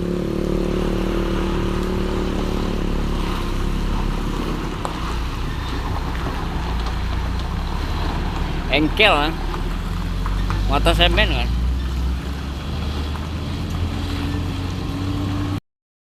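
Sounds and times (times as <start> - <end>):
road noise: 0.0 - 15.6
truck diesel engine passing: 0.0 - 15.6.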